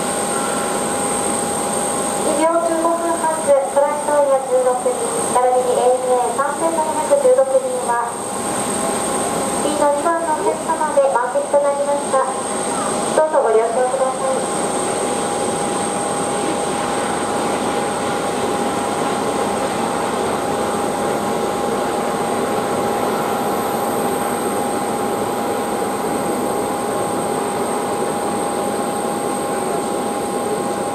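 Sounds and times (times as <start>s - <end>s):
jet turbine whine: 0.0s - 30.9s.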